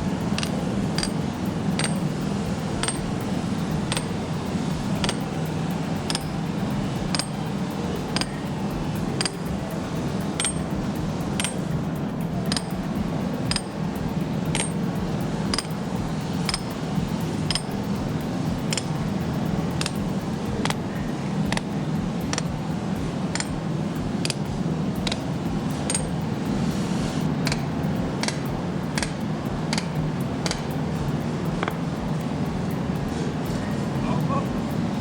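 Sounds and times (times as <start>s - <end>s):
low hum and rumble: 0.0s - 35.0s
metal-on-metal clinks: 0.0s - 35.0s.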